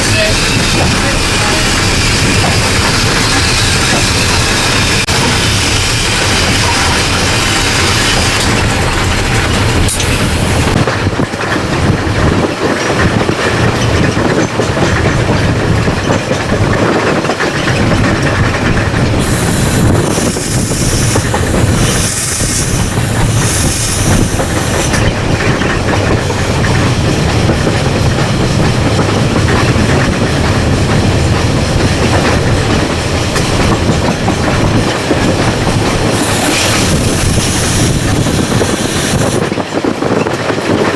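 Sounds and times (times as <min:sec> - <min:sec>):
steam locomotive rumble: 0:00.0 - 0:40.9
wheels clattering over rails: 0:00.0 - 0:40.9.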